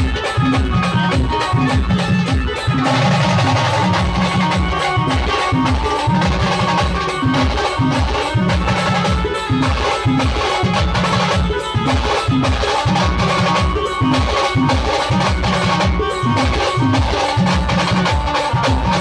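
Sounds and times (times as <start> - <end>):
drums keeping steady beat: 0.0 - 19.0
looping melody: 0.0 - 19.0.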